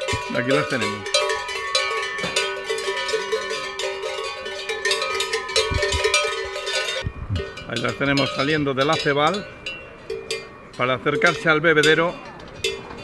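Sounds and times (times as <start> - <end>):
cowbells clanking: 0.0 - 13.0.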